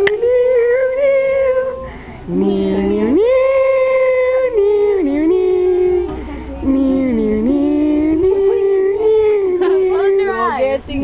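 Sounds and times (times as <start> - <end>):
girl singing slow melody: 0.0 - 10.9.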